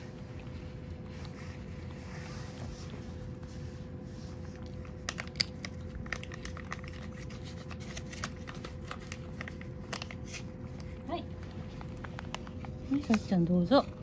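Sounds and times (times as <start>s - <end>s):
cat chewing and licking: 0.0s - 14.0s
faint steady hum: 0.0s - 14.0s.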